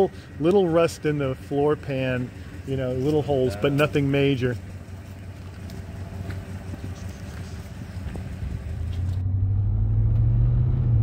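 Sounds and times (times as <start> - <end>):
vehicle engine idling: 0.0 - 9.4
vehicle driving on gravel road: 0.0 - 11.0.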